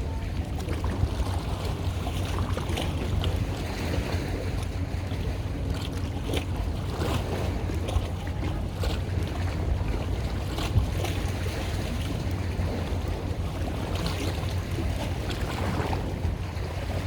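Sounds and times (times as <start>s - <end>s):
boat engine humming: 0.0s - 17.0s
water splashing on hull: 0.0s - 17.0s.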